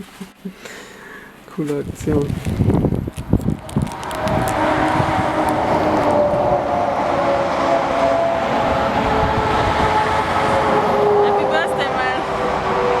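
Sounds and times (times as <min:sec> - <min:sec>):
wind noise: 0:01.8 - 0:13.0.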